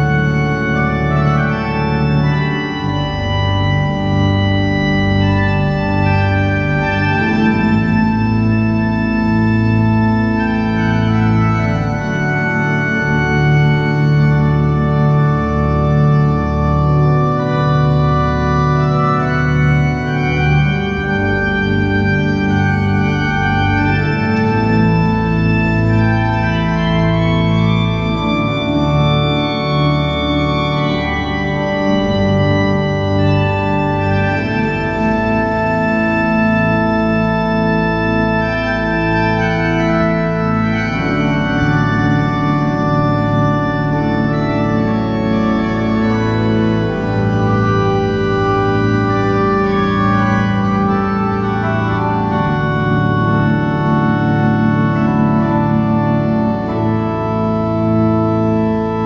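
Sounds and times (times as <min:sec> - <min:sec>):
organ chords: 0:00.0 - 0:59.0.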